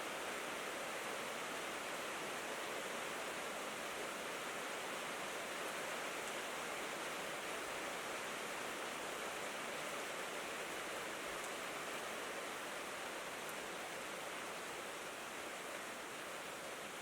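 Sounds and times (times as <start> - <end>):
rain on a tin roof: 0.0 - 17.0.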